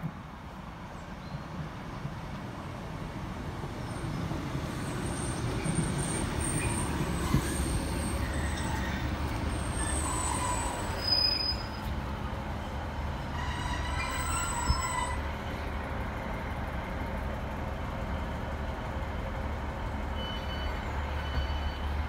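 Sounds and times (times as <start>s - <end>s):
train engine and wheels rumbling: 0.0s - 22.0s.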